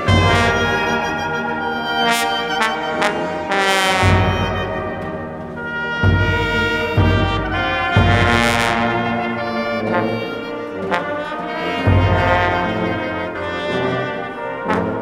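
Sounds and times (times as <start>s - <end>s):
brass band playing funeral music: 0.0s - 15.0s.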